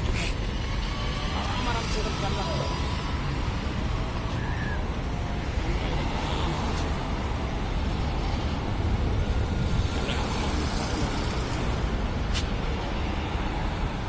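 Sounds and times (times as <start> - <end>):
tyre road noise: 0.0 - 14.0.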